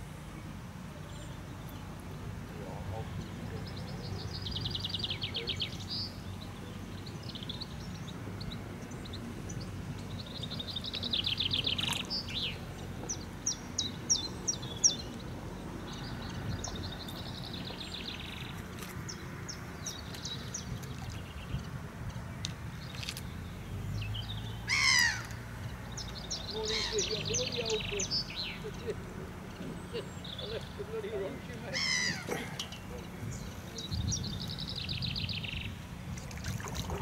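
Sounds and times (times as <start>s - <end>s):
songbirds singing trills: 0.0s - 37.0s.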